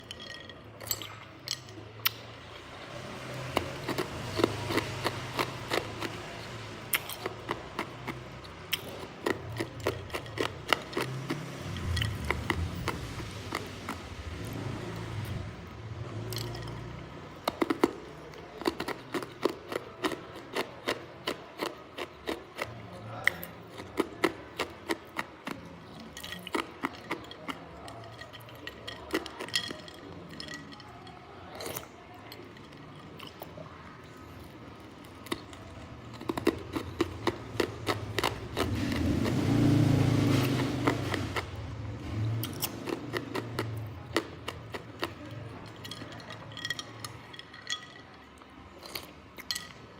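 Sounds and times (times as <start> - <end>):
ice being chewed: 3.2 - 15.4, 16.2 - 41.5, 42.3 - 49.9.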